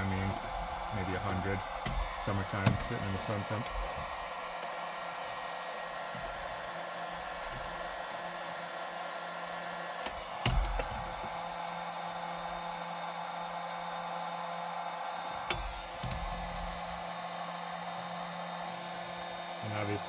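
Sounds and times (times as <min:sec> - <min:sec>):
heat gun blowing air: 0:00.0 - 0:20.0.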